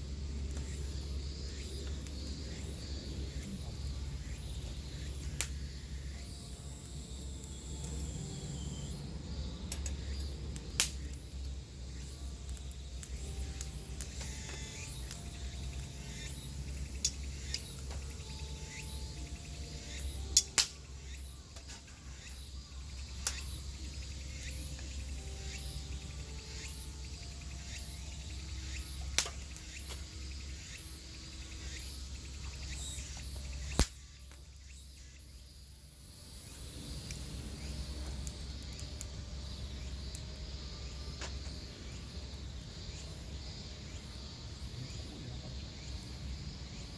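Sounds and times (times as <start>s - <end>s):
wood fire crackling: 0.0s - 34.6s, 35.4s - 45.0s
faint insect chirping: 0.0s - 46.9s.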